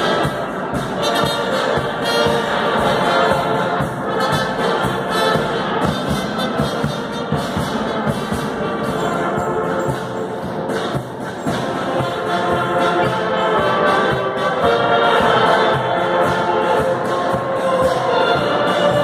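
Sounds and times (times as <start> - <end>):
brass band playing: 0.0 - 19.0
steady drum beat: 0.0 - 19.0.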